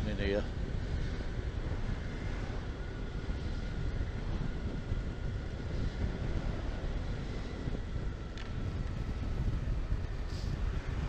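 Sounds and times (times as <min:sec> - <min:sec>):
wind rumble: 0:00.0 - 0:11.0.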